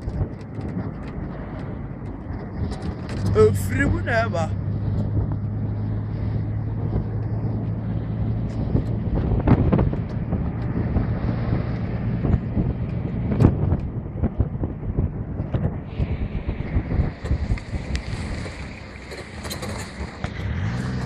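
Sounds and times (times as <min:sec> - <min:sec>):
vehicle engine running: 0:00.0 - 0:21.0
wind noise on microphone: 0:00.0 - 0:21.0.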